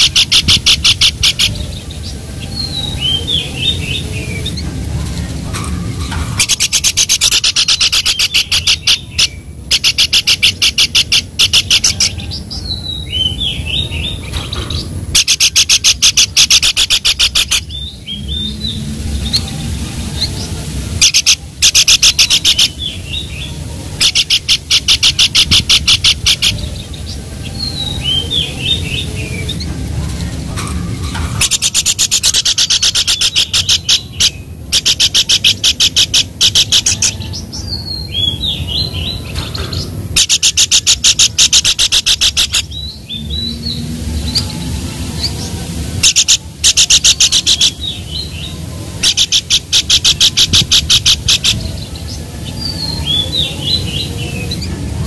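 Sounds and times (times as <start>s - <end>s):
songbird fast chattering: 0.0s - 4.6s, 6.0s - 18.6s, 20.2s - 29.6s, 31.3s - 37.3s, 40.1s - 43.6s, 46.0s - 54.7s.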